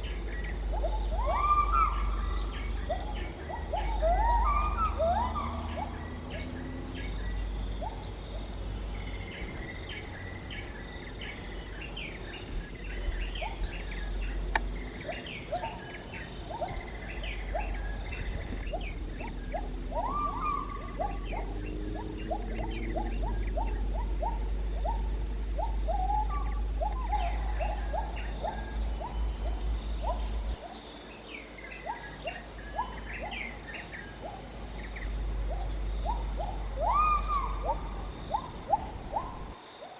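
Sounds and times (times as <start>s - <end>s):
rising chirping bird calls: 0.0s - 8.2s, 8.9s - 39.6s
high-pitched insect drone: 0.0s - 39.9s.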